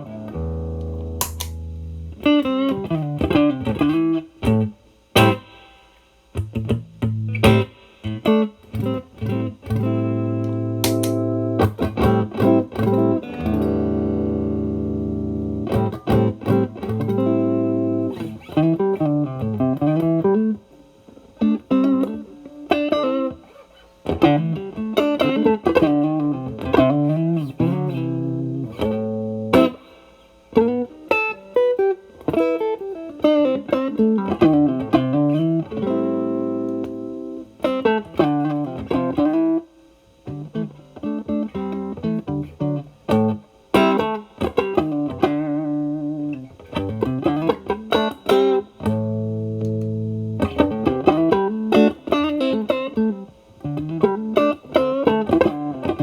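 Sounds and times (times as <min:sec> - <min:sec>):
electric guitar licks and chords: 0:00.0 - 0:56.0.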